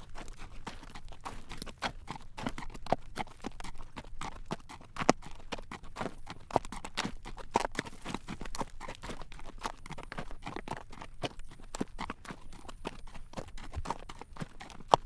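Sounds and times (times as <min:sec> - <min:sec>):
horse hooves clip-clopping on road: 0:00.0 - 0:15.0.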